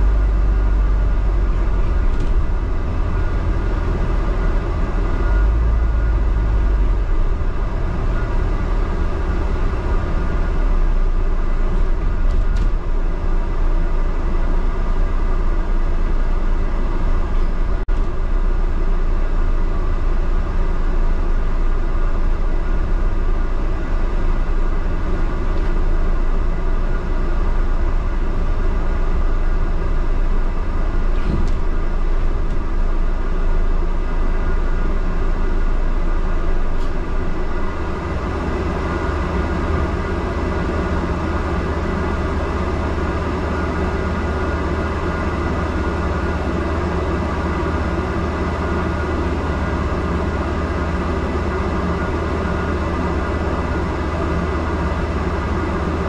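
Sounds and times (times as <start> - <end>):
bus driving rumble: 0.0 - 56.0
road noise: 0.0 - 56.0.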